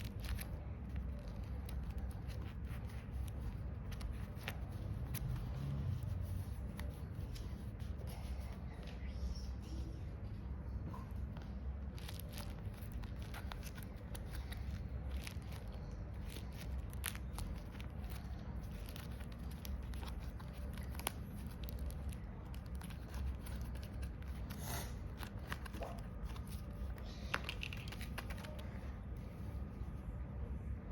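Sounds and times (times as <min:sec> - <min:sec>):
paper crinkling and tearing: 0:00.0 - 0:08.9, 0:11.2 - 0:28.8
low hum: 0:00.0 - 0:30.9.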